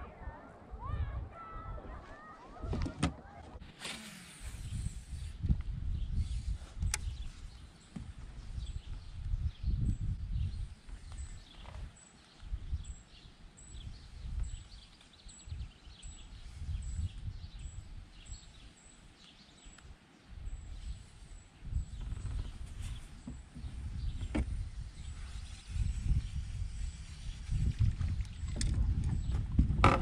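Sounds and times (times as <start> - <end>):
wind buffeting microphone: 0.0 - 3.7, 4.4 - 18.8, 19.9 - 30.0.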